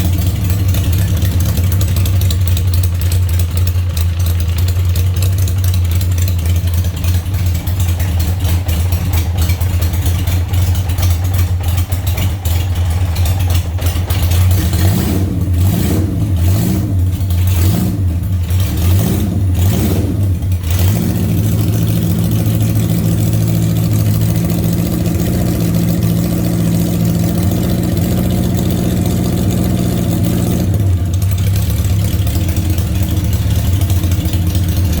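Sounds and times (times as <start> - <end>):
engine idling and revving: 0.0 - 35.0.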